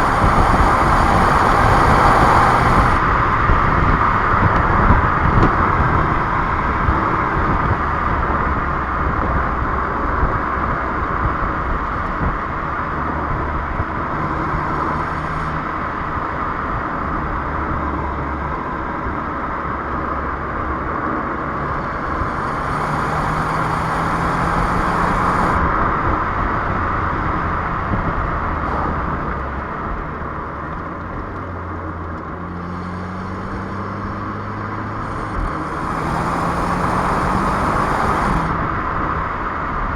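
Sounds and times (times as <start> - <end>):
car engine running: 0.0 - 6.2, 11.0 - 39.9
road and tyre noise: 0.0 - 39.9.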